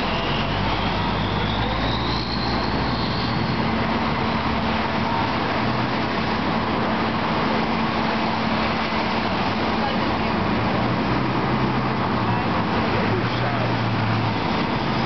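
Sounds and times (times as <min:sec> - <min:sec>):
fire engines driving past: 0:00.0 - 0:15.0.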